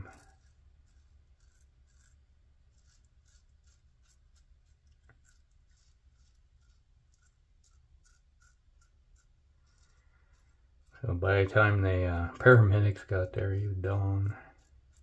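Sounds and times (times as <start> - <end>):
razor scratching stubble: 0.0 - 15.0.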